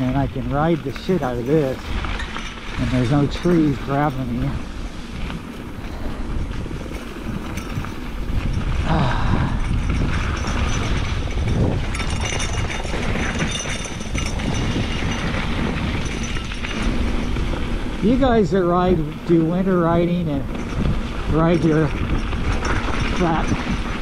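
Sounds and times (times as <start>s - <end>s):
bike tyres and rattle on dirt: 0.0s - 24.0s
wind rumble on microphone: 0.0s - 24.0s.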